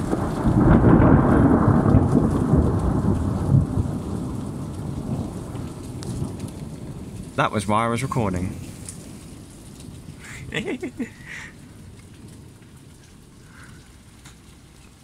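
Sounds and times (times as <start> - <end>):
deep thunder rumble: 0.0 - 14.7.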